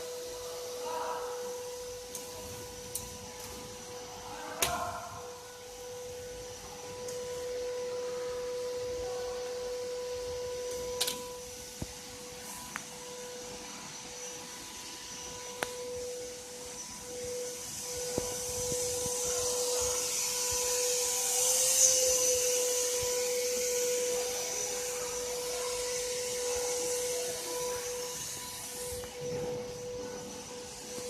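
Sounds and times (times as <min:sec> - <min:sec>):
hiss: 0:00.0 - 0:31.0
laser cutter humming: 0:00.0 - 0:31.0.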